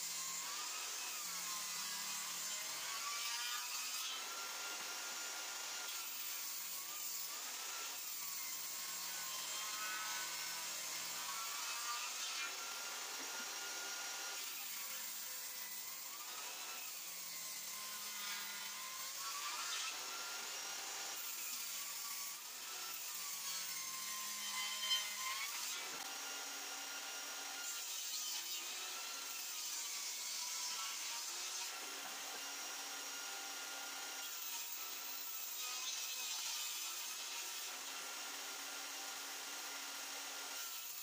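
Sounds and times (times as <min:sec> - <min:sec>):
table saw cutting wood: 0:00.0 - 0:41.0.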